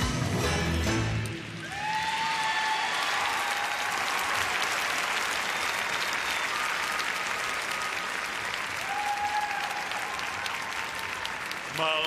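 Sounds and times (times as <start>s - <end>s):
audience applauding: 1.0s - 12.0s.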